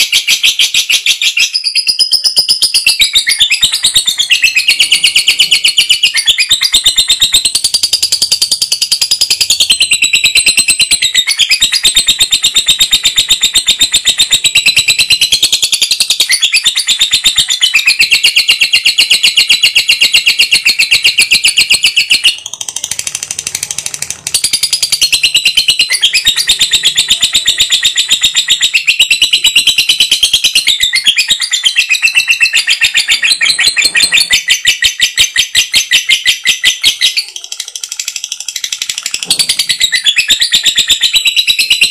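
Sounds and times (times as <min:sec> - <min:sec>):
lovebird chattering trill: 0:00.0 - 0:41.9.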